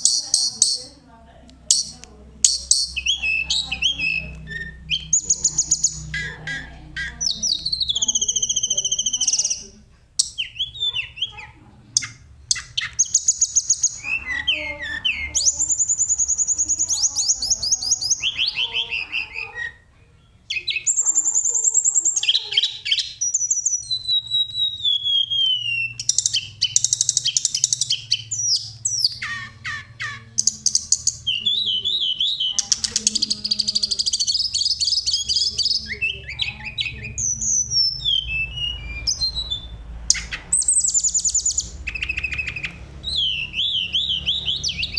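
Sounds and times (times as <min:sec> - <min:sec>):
songbird trilling and whistling: 0:00.0 - 0:01.0, 0:01.6 - 0:44.9.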